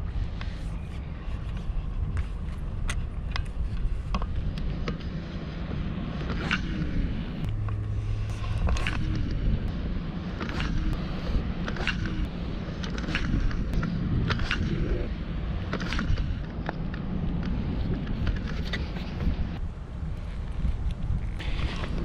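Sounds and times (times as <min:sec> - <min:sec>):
low wind rumble on microphone: 0:00.0 - 0:22.0.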